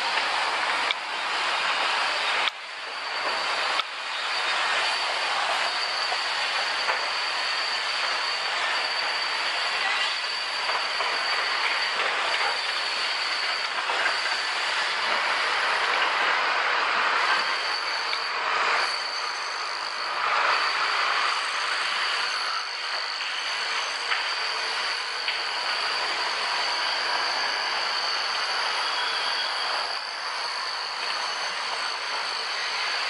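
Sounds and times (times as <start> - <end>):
construction machinery running: 0.0 - 33.0
high mechanical whine: 0.0 - 33.0.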